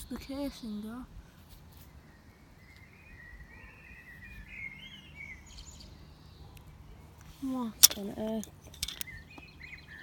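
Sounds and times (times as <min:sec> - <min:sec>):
faint bird song: 0:00.0 - 0:10.0.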